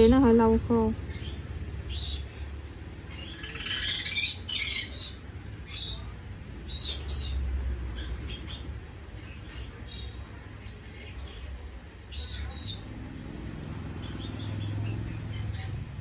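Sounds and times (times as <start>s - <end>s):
low steady hum: 0.0s - 16.0s
bird chirping and squawking: 0.9s - 13.0s, 13.6s - 15.9s.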